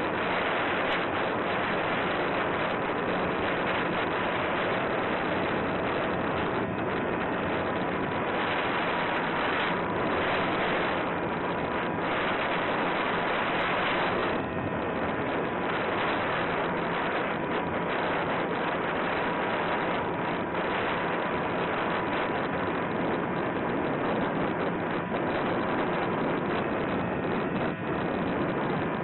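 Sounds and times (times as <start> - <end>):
airflow hissing over microphone: 0.0 - 29.0
faint motor and propeller hum: 0.0 - 29.0.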